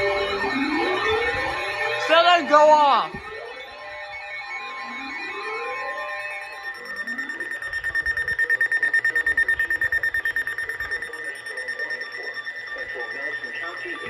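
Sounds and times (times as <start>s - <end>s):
rapid high-pitched alarm beeping: 0.0s - 14.0s.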